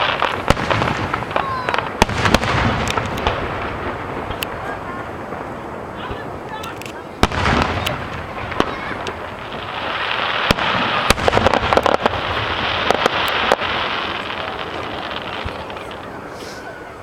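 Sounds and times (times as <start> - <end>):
sharp crackling pops: 0.0 - 16.7
firework burst: 0.0 - 17.0
fireworks crackling hiss: 0.0 - 17.0.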